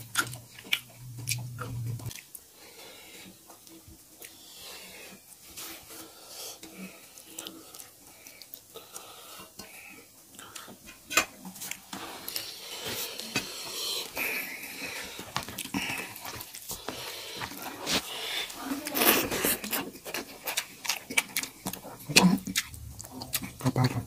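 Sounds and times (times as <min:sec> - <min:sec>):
fingers mixing wet rice: 0:00.0 - 0:24.0.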